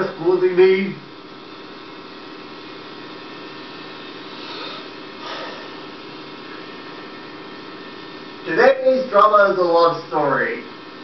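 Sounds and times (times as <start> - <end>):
electrical mains hum and hiss: 0.0 - 11.0.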